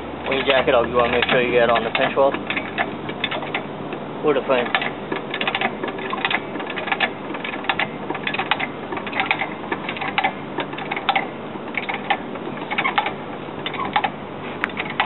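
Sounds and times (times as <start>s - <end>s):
car jack ratcheting clicks: 0.3s - 4.0s, 4.6s - 15.0s.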